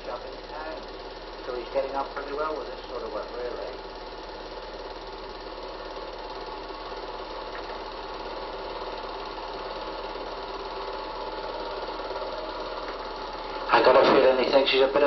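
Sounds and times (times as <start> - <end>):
film projector whirring: 0.0 - 15.0.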